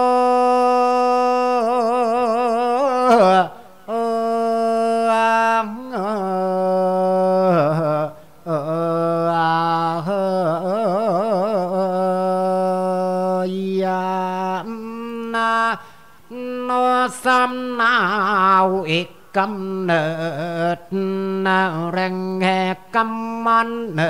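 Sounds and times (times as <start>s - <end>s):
man singing long held notes: 0.0s - 24.0s.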